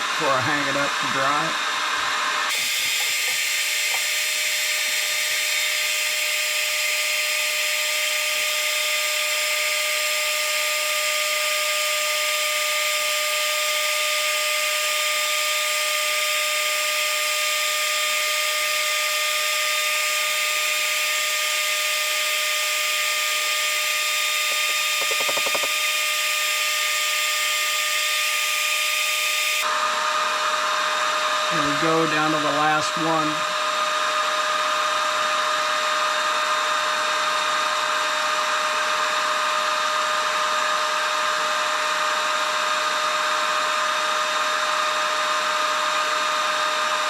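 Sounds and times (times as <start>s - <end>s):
heat gun fan hiss and whine: 0.0s - 47.0s.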